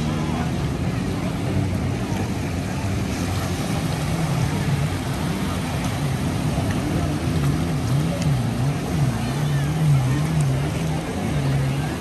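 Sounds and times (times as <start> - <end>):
boat engine drone: 0.0 - 12.0
hiss of water and wind: 0.0 - 12.0.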